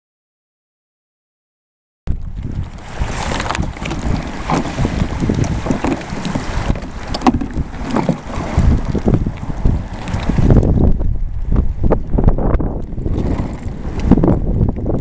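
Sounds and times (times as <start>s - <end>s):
crackles of kayak sheet handled: 2.1s - 15.0s
wind buffeting microphone: 2.1s - 15.0s.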